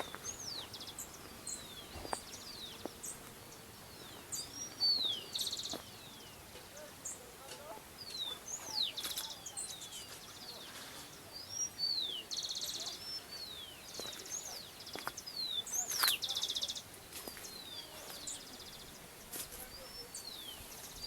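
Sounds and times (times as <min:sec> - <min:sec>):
birds whistling and trilling: 0:00.0 - 0:03.2, 0:04.0 - 0:07.2, 0:08.0 - 0:21.0.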